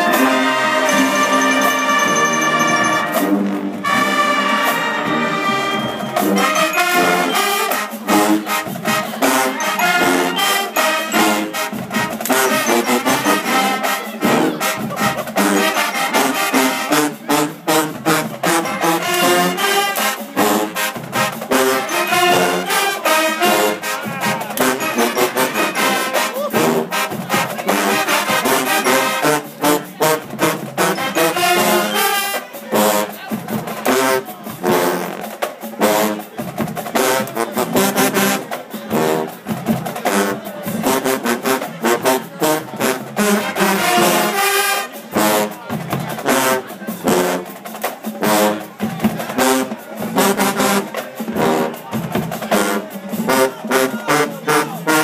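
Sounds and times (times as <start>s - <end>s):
trombones and trumpets playing: 0.0s - 39.4s, 40.0s - 55.0s.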